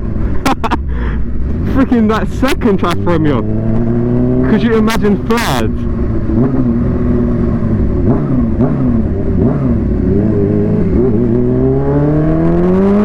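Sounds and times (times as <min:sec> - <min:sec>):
motorcycle engine revving: 0:01.2 - 0:13.0.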